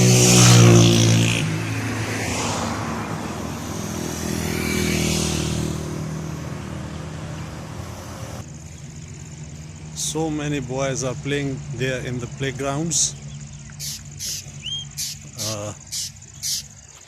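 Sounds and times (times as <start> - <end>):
vehicle passing close by: 0.0 - 16.9
low engine hum: 0.0 - 17.0
rush of passing vehicle: 0.0 - 17.0.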